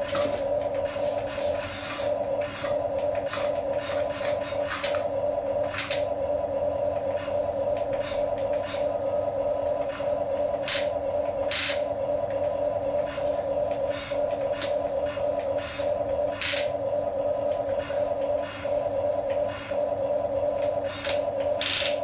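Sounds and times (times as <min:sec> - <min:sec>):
electric gear motors whining: 0:00.0 - 0:22.0.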